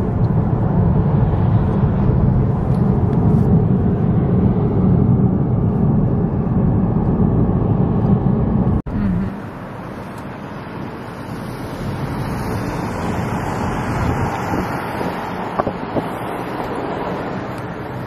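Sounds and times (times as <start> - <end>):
car engine and tyres rumbling: 0.0 - 18.0
outdoor traffic: 0.0 - 18.0.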